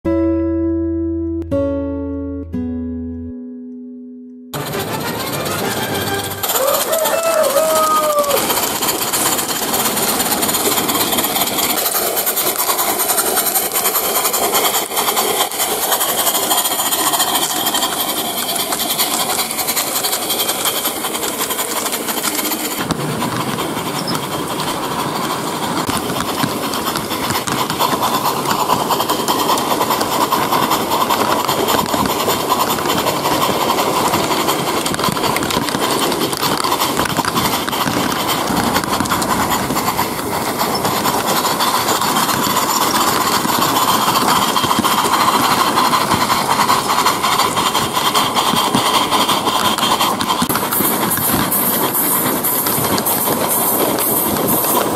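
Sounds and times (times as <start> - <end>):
rapid steam exhaust beats: 4.6 - 54.9
steam hissing: 4.6 - 54.9.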